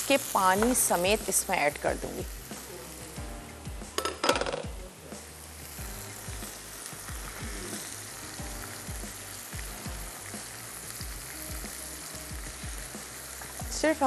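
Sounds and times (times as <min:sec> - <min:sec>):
meat sizzling in hot oil: 0:00.0 - 0:14.0.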